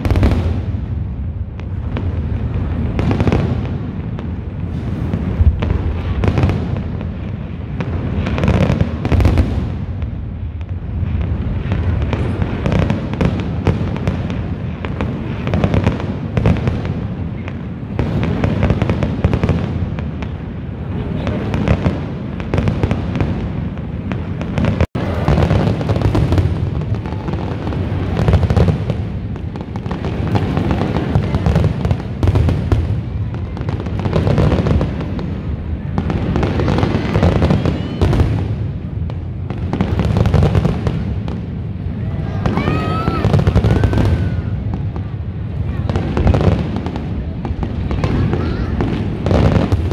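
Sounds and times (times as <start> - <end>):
fireworks bursts and crackle: 0.0 - 49.9
heavy booms: 0.0 - 49.9.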